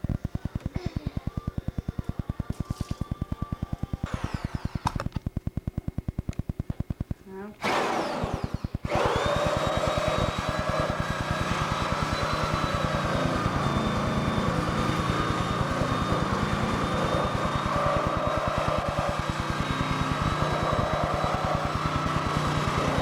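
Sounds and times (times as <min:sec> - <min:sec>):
power tool motor whining: 0:00.0 - 0:05.6, 0:07.6 - 0:23.0.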